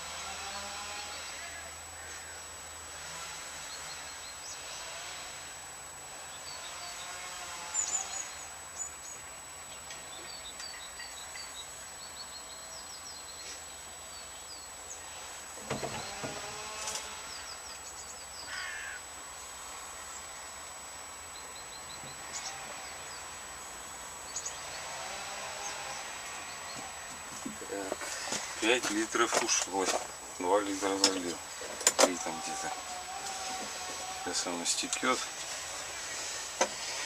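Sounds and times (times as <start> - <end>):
small birds chirping: 3.5 - 4.9, 6.2 - 19.0, 21.0 - 37.0.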